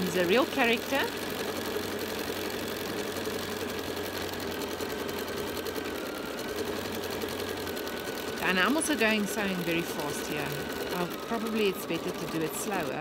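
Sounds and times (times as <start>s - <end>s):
sewing machine stitching: 0.0s - 13.0s.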